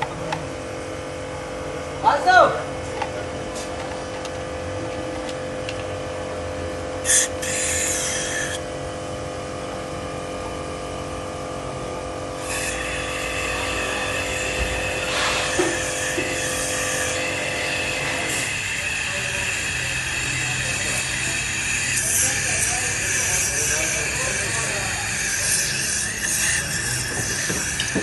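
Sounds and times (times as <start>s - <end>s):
engine running steadily: 2.6s - 28.0s.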